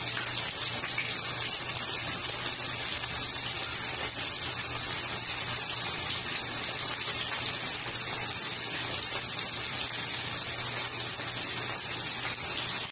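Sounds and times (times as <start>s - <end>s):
chicken sizzling in oil: 0.0s - 12.9s.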